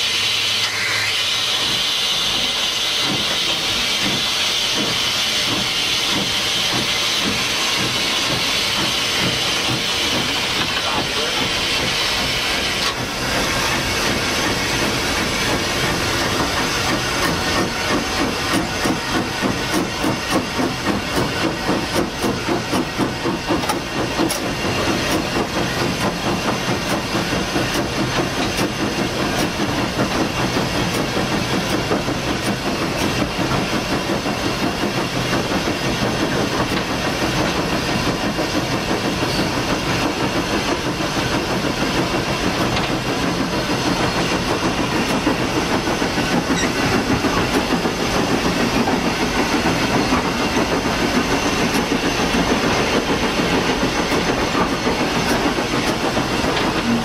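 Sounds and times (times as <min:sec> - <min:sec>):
steam hissing: 0:00.0 - 0:57.0
steam locomotive exhaust chuffs: 0:00.0 - 0:57.0.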